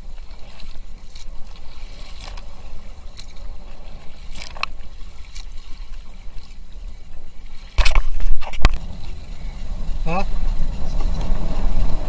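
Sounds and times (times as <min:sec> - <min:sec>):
rushing water splash: 0:00.0 - 0:12.0
steady low rumble: 0:00.0 - 0:12.0
water sloshing around paddle: 0:00.0 - 0:12.0.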